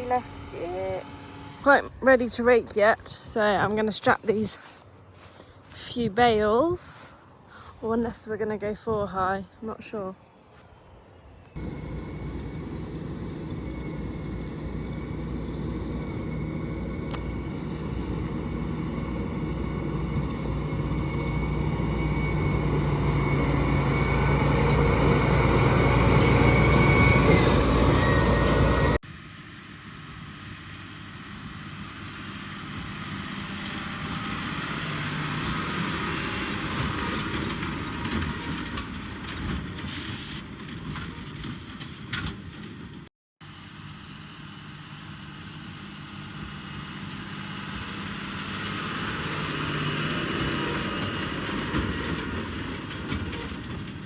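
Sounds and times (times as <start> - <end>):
tractor engine running: 0.0 - 9.3, 11.6 - 29.0, 29.8 - 43.0, 44.7 - 54.0.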